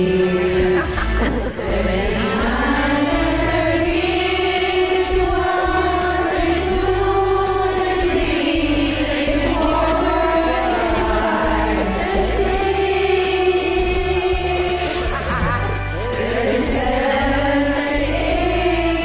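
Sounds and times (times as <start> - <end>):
musical accompaniment: 0.0 - 19.0
women singing in unison: 0.0 - 19.0.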